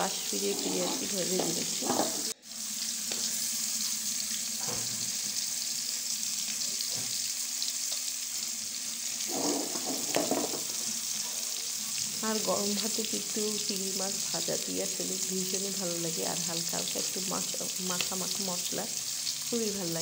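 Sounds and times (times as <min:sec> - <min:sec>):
prawns sizzling in hot oil: 0:00.0 - 0:20.0.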